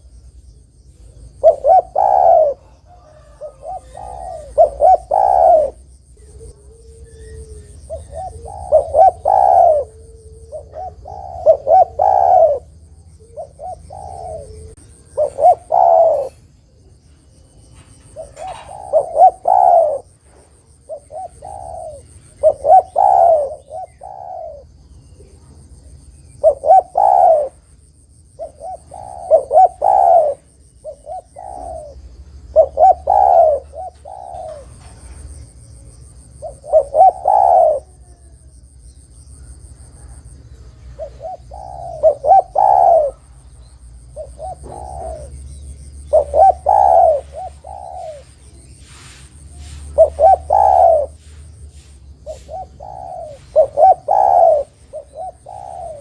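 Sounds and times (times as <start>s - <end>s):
dove cooing: 0.9s - 56.0s.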